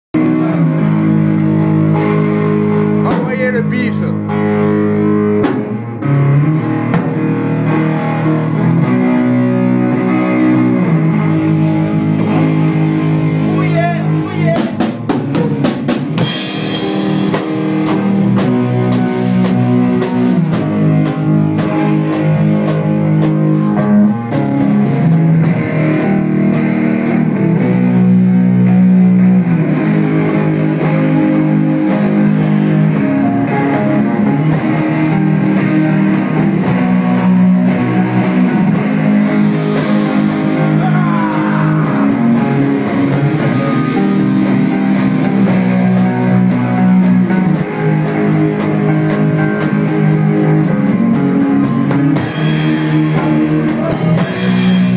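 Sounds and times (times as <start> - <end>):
bass guitar: 0.0 - 54.9
drum kit: 0.1 - 54.9
electric guitar riffs: 0.1 - 54.9.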